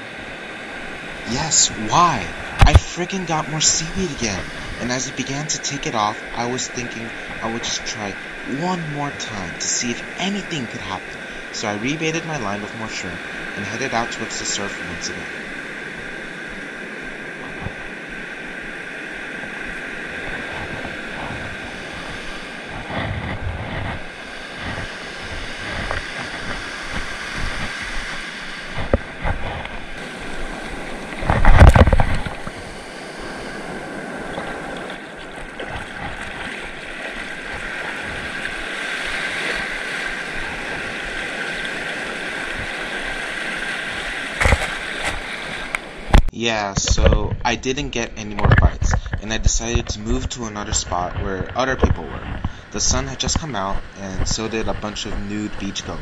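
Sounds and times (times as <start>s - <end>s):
ocean surf breaking: 0.0s - 47.6s, 48.4s - 56.0s
wind on microphone: 0.0s - 56.0s.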